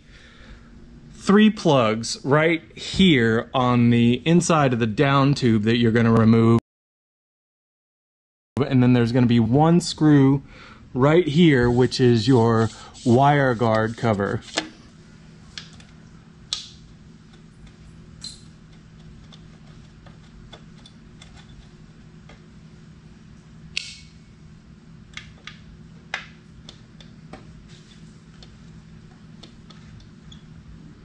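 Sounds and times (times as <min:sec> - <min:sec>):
steady low hum: 0:00.0 - 0:06.6, 0:08.6 - 0:31.0.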